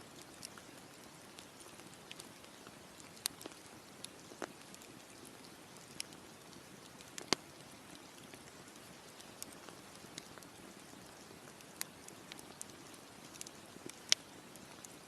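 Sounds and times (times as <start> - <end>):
campfire crackling: 0.0 - 15.0
soft steady hiss: 0.0 - 15.0.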